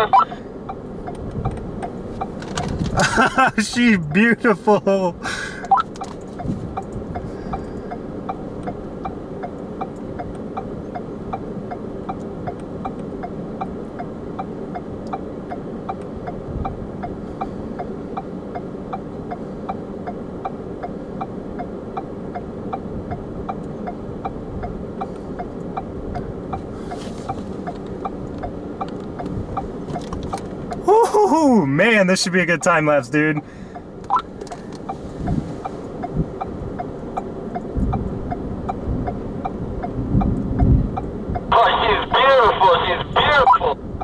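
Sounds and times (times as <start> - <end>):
low mechanical hum: 0.0 - 44.0
light regular ticking: 0.6 - 4.5, 5.6 - 30.8, 32.3 - 41.5.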